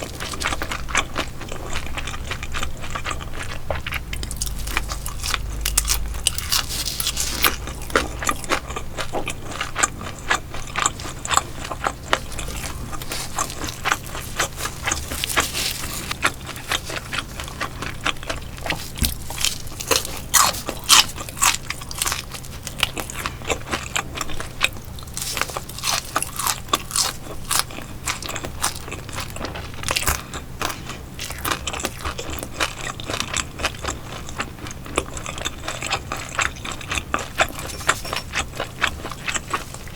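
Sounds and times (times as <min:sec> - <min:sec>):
crunchy chewing of fried fish: 0:00.0 - 0:39.9.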